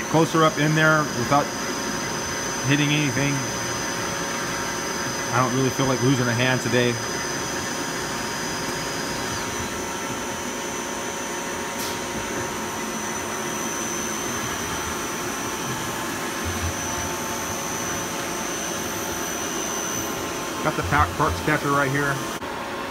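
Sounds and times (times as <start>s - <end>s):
high steady whine: 0.0s - 22.9s
machine spindles whirring: 0.0s - 22.9s.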